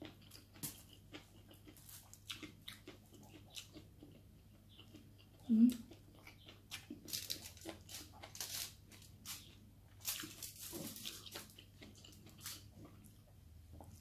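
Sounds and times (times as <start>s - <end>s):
person chewing with mouth smacks: 0.0s - 8.3s, 10.2s - 14.0s.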